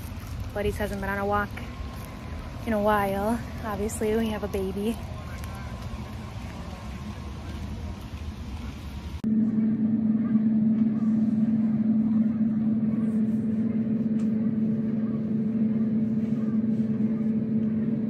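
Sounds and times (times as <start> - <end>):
loud steady low hum: 0.0 - 18.0
outdoor background noise: 0.0 - 18.0.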